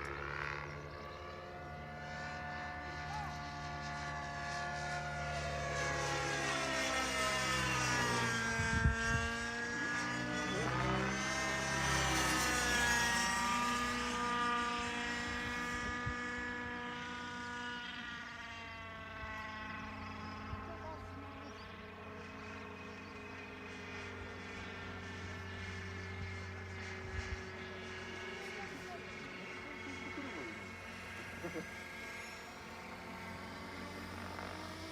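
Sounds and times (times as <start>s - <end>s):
model helicopter engine and rotor: 0.0s - 34.9s.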